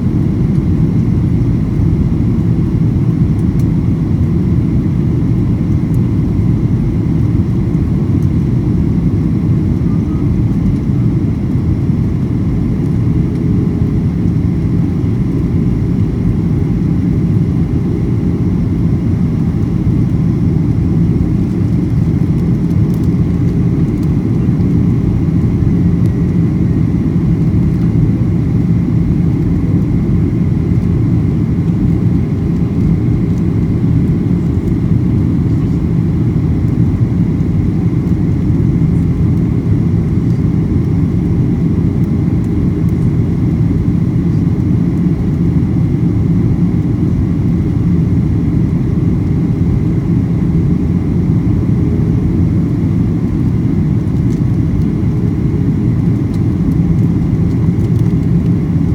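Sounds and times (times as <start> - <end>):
faint steady whine: 0.0 - 58.9.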